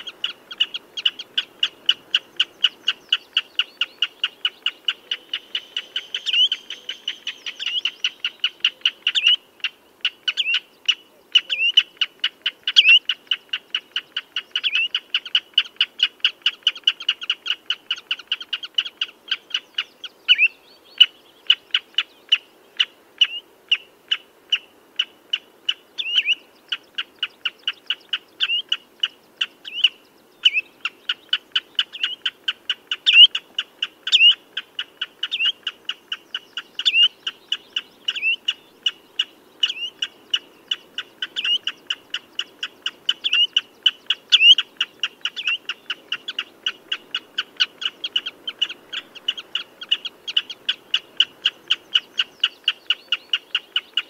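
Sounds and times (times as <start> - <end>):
bird piping calls: 0.0 - 54.0.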